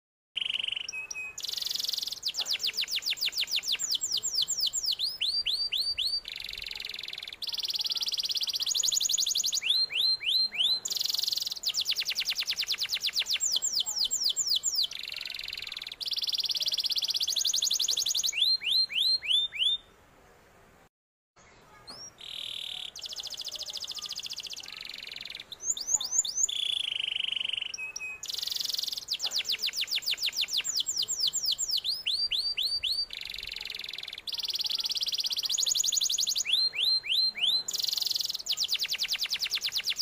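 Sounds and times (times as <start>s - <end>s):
canary singing fast trills: 0.4s - 19.9s, 21.7s - 40.0s.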